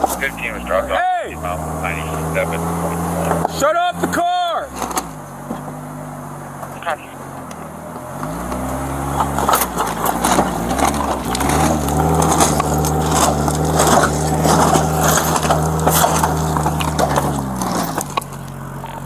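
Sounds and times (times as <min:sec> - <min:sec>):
engine revving hard: 0:00.0 - 0:19.0
wheels spinning and crunching: 0:00.0 - 0:19.0.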